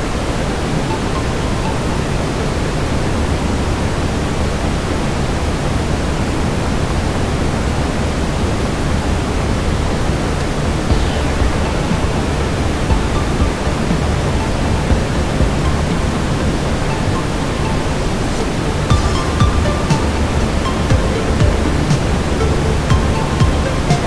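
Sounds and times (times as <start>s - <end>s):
brown noise: 0.0s - 24.0s.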